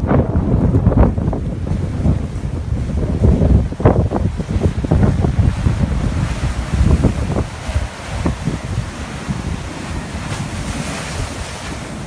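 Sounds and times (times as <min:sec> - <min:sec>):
blizzard wind buffeting microphone: 0:00.0 - 0:12.0.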